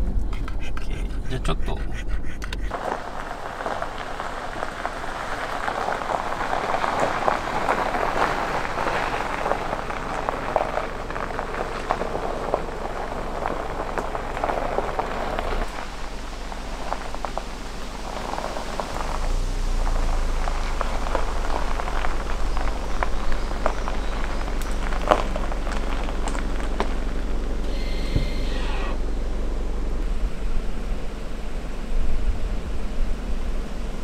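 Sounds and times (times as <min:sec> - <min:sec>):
tyres crunching over gravel: 0:02.6 - 0:34.0.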